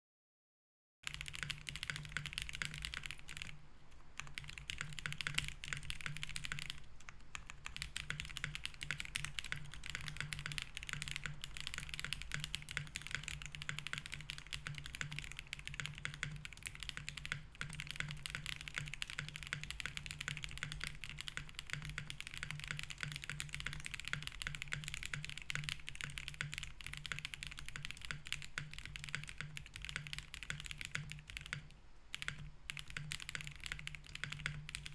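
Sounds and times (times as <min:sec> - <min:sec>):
mechanical keyboard typing: 0:01.0 - 0:34.9.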